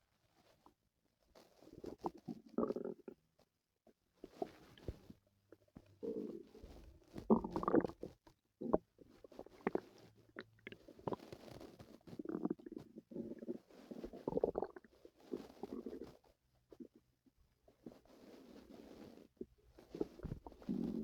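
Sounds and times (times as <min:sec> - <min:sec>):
stomach growling and gurgling: 0:01.4 - 0:21.0.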